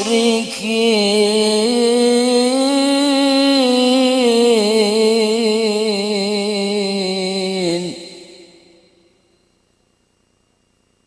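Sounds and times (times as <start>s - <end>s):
person reciting melodically: 0.0s - 8.9s.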